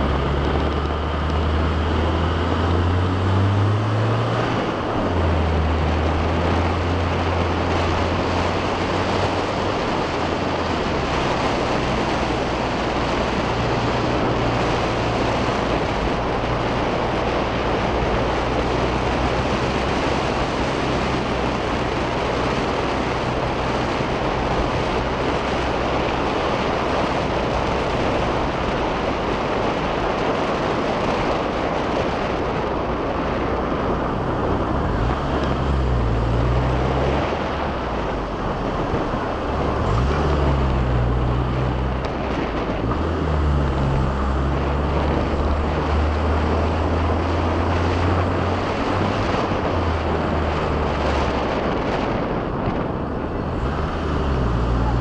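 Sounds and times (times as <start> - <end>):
car engine climbing: 0.0 - 55.0
wind noise: 0.0 - 55.0.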